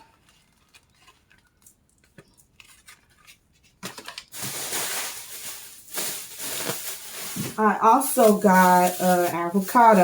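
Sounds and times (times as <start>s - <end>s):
packaging crinkling: 0.2s - 10.0s.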